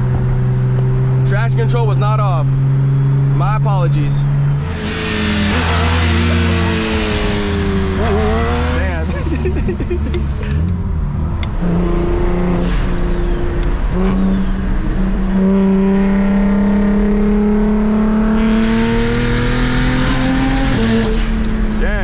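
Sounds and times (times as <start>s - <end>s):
car engine under throttle: 0.0s - 22.0s.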